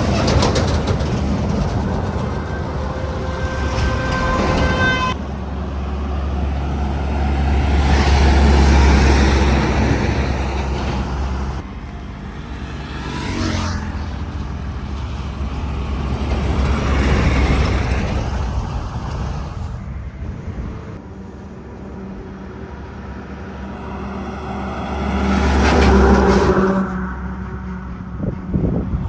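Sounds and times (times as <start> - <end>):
falling whine of passing truck: 0.0 - 29.0
heavy trucks driving past: 0.0 - 29.0.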